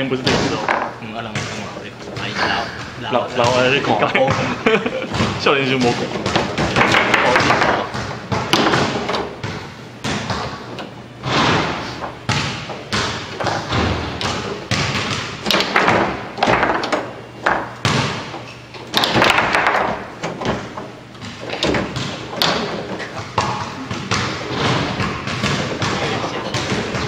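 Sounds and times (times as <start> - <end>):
foosball ball knocking: 0.3 - 0.9, 5.2 - 27.0.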